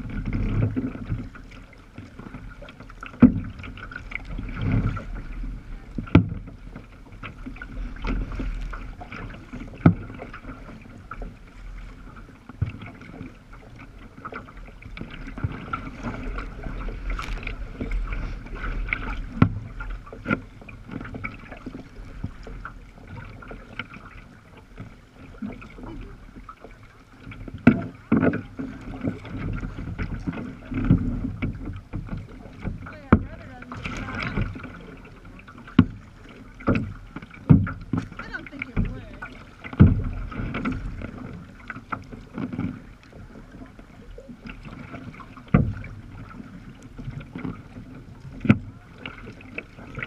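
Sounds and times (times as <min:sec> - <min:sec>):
splashes and knocks: 0:00.0 - 0:50.0
water slapping against hull: 0:00.0 - 0:50.0.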